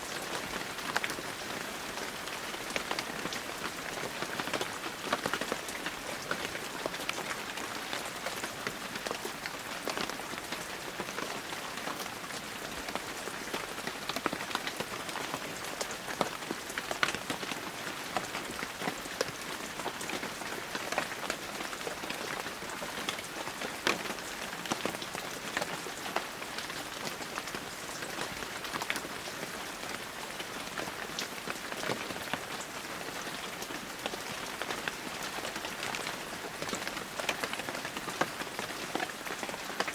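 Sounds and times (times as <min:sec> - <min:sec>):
raindrops ticking close by: 0:00.1 - 0:39.9.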